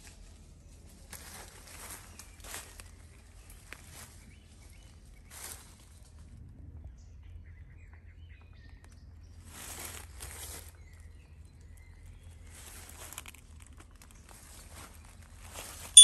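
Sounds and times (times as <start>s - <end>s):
rustles: 0.0s - 6.4s, 9.4s - 16.0s
low steady rumble: 0.0s - 15.8s.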